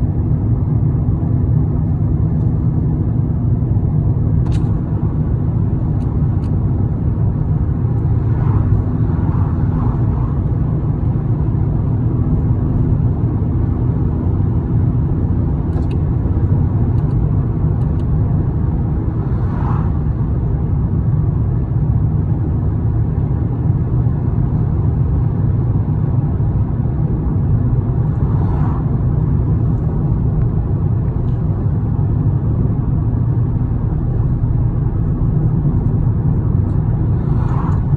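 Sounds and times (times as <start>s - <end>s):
moving vehicle rumble: 0.0s - 37.9s.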